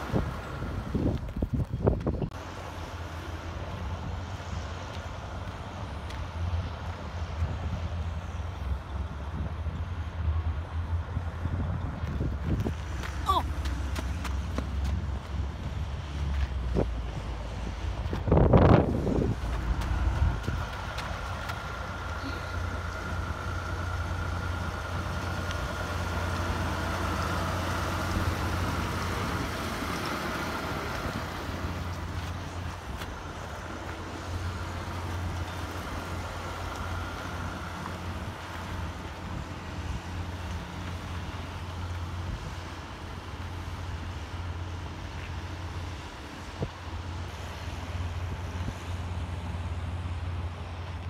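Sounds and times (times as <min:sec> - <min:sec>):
dump truck driving past: 0:00.0 - 0:01.4, 0:02.2 - 0:51.0.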